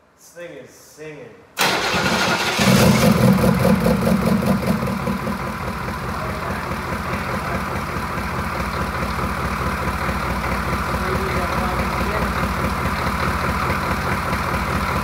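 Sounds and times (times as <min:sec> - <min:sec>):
diesel engine idling: 0:01.6 - 0:15.0.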